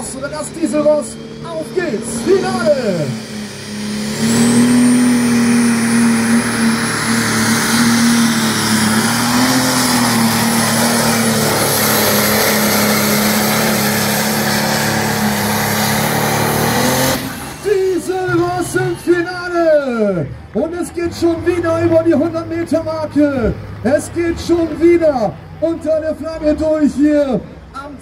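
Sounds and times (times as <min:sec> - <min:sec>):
diesel engine at full throttle: 0:00.0 - 0:28.0.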